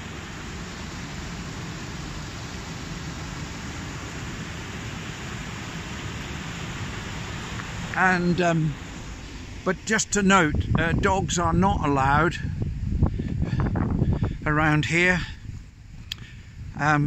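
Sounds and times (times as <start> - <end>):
water rushing through inlet: 0.0 - 17.0.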